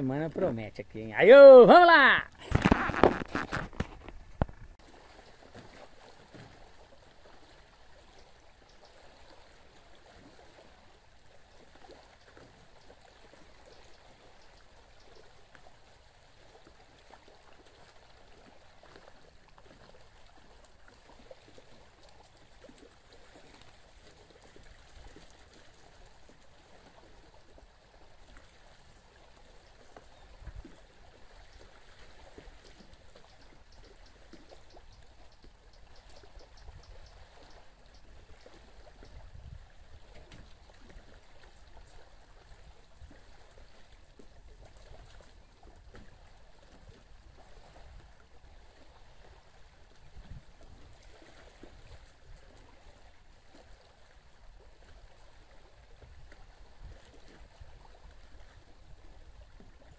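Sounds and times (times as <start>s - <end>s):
small waves lapping on shore: 0.0s - 59.9s.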